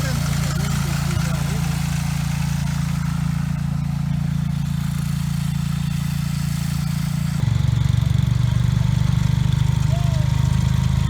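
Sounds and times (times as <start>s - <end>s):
garden tractor engine running: 0.0s - 11.0s.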